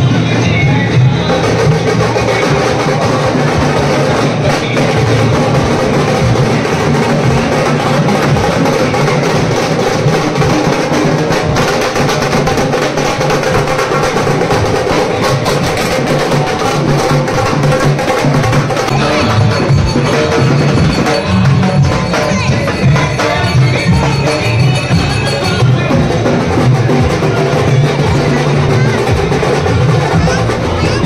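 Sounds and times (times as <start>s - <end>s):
loud continuous drumming: 0.0s - 31.0s.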